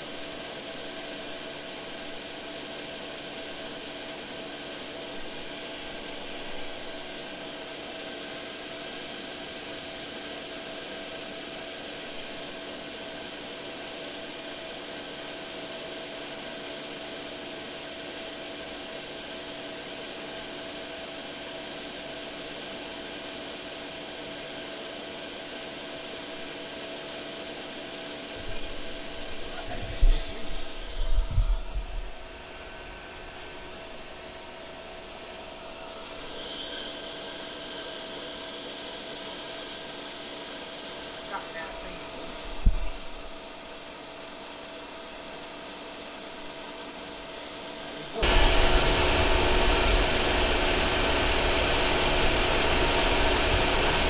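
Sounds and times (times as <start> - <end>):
air heater blower fan whirring: 0.0 - 54.0.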